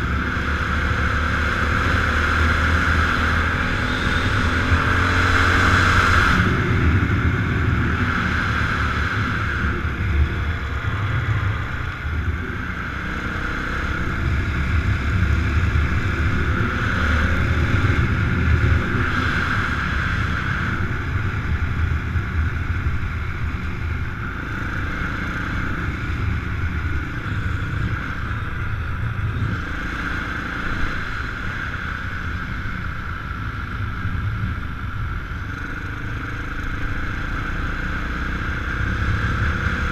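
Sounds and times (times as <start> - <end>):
motor vehicle engines running: 0.0 - 39.9.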